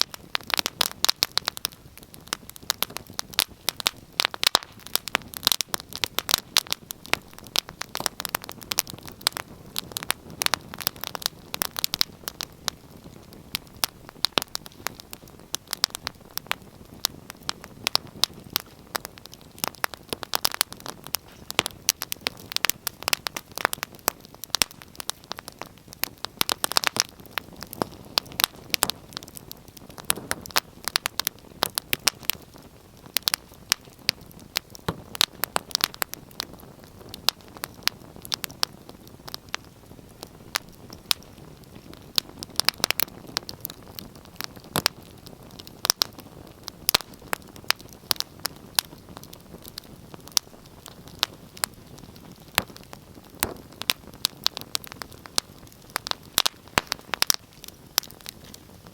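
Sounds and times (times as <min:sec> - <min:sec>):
hiss of burning: 0:00.0 - 0:58.9
wood fire crackling: 0:00.0 - 0:58.9.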